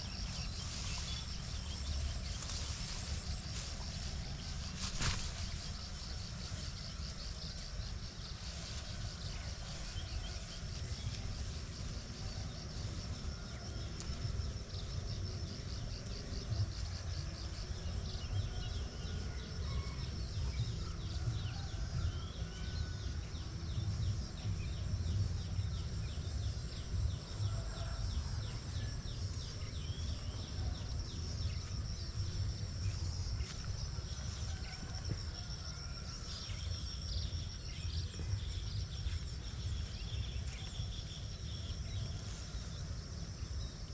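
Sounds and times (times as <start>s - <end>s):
low rumble on microphone: 0.0s - 43.1s
high insect trill: 0.0s - 43.9s.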